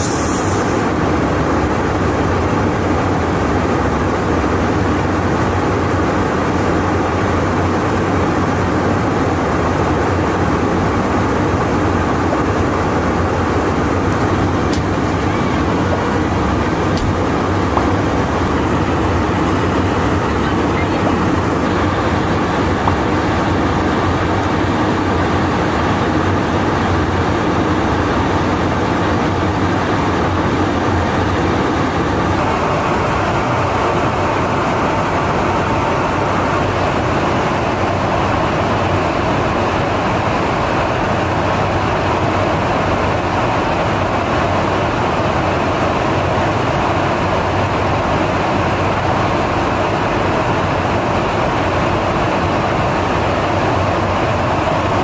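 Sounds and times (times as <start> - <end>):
aircraft engine noise: 0.0 - 55.0
airflow rush inside aircraft: 0.0 - 55.0.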